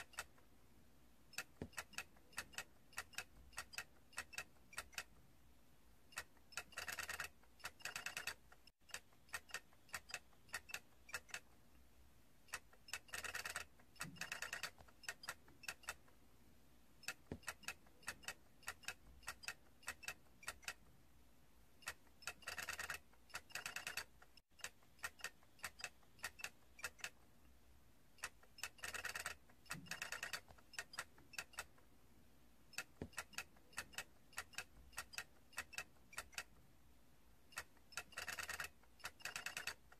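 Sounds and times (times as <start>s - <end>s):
plastic toy figures clicking: 0.0s - 0.4s, 1.3s - 5.2s, 6.1s - 11.6s, 12.5s - 16.2s, 17.0s - 20.9s, 21.8s - 27.3s, 28.2s - 31.9s, 32.7s - 36.6s, 37.5s - 39.9s.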